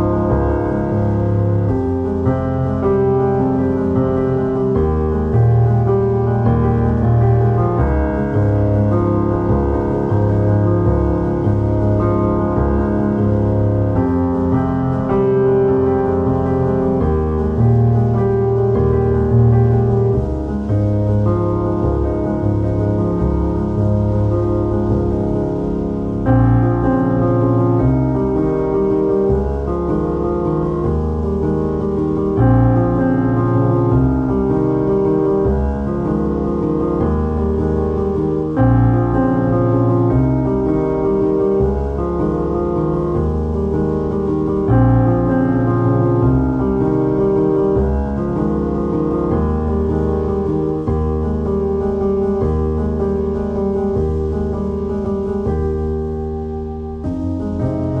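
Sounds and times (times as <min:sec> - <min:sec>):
slow piano chords: 0:00.0 - 0:58.0.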